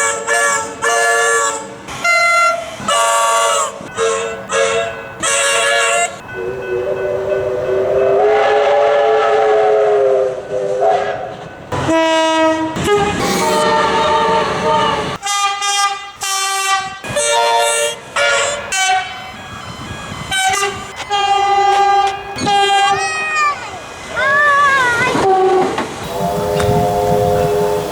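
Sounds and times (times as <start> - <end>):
train horn blasts: 0.0 - 23.1, 25.2 - 27.9.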